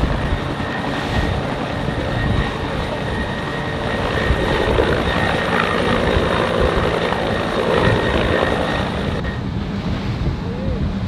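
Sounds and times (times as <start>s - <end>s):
helicopter rotor and turbines: 0.0s - 11.0s
wind and spray from boat: 0.0s - 11.0s.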